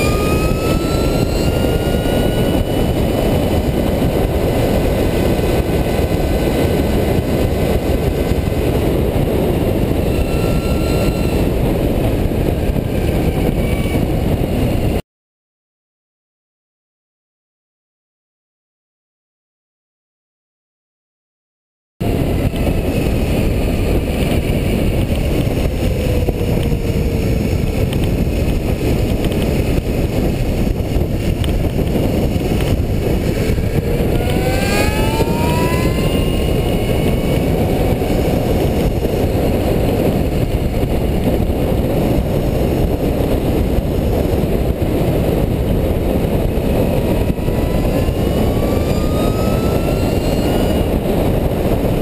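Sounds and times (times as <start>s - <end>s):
electric motor whine: 0.0s - 14.9s, 22.0s - 52.0s
wind rush on microphone: 0.0s - 15.0s, 22.0s - 52.0s.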